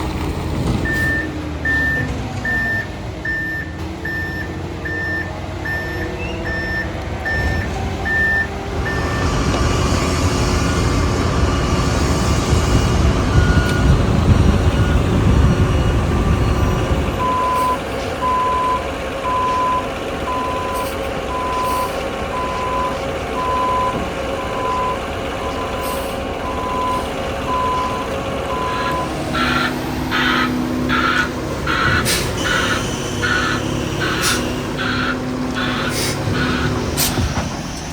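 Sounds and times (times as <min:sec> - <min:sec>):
truck diesel engine rumbling: 0:00.0 - 0:37.9
reversing alarm beeping: 0:00.8 - 0:09.4, 0:13.2 - 0:37.3.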